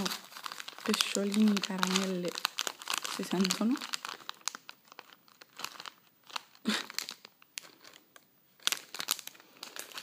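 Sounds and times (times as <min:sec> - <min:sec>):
foil bag crinkling: 0:00.0 - 0:10.0.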